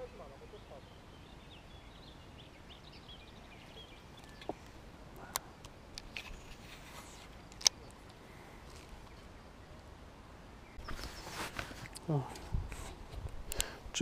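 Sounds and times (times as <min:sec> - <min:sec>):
small birds chirping: 0:00.0 - 0:09.9, 0:10.5 - 0:12.9.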